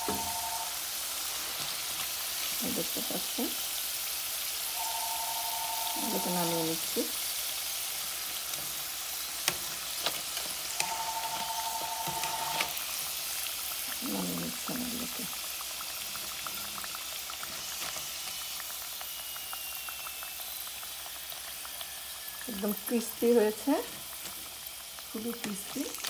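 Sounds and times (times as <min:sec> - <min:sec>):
potatoes sizzling in hot oil: 0:00.0 - 0:26.0.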